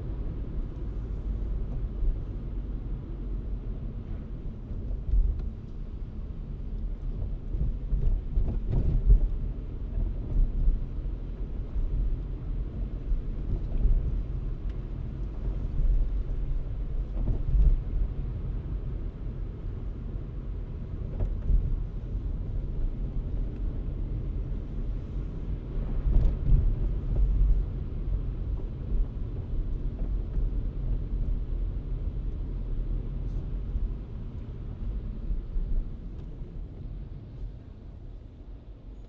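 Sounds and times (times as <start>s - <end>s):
car driving road noise: 0.0s - 39.0s.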